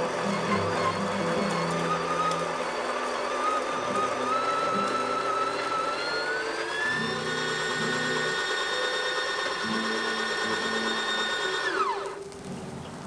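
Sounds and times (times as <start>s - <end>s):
coffee grinder motor whine: 0.0s - 12.3s.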